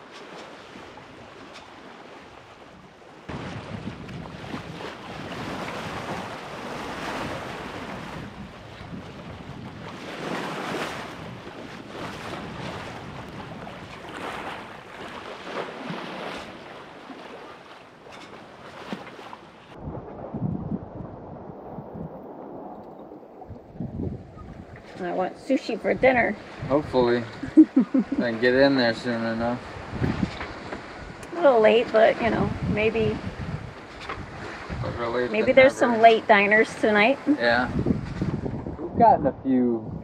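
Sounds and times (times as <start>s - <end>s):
water splashing along hull: 0.0s - 38.9s
wind buffeting microphone: 0.0s - 40.0s.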